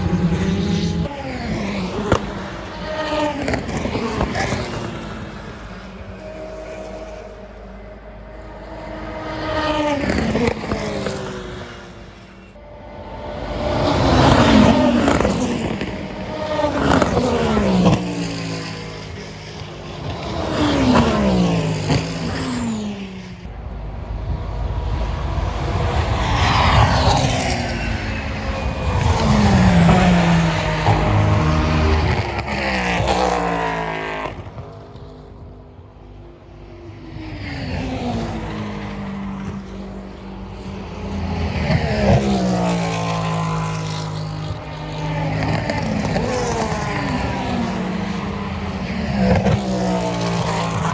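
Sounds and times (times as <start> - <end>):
race cars passing by: 0.0 - 50.9.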